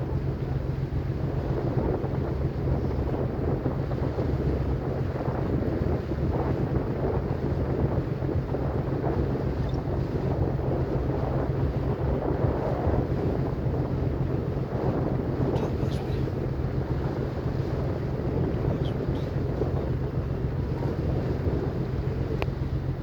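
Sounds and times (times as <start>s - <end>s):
boat engine humming: 0.0s - 23.0s
wind noise on microphone: 0.0s - 23.0s.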